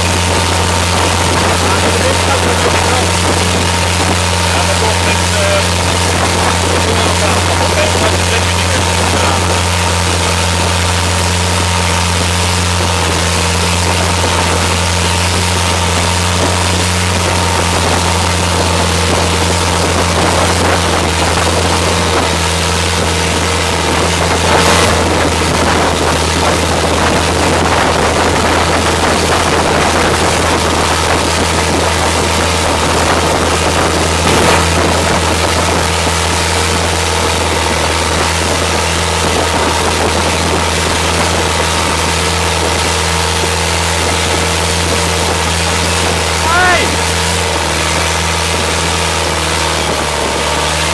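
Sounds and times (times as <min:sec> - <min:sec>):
boat engine drone: 0:00.0 - 0:50.9
water rushing past hull: 0:00.0 - 0:50.9
water splashes: 0:00.0 - 0:50.9.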